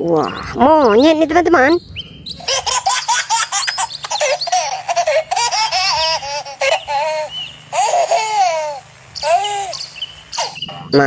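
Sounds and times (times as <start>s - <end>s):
baby monkey squealing and chirping: 0.0s - 11.0s.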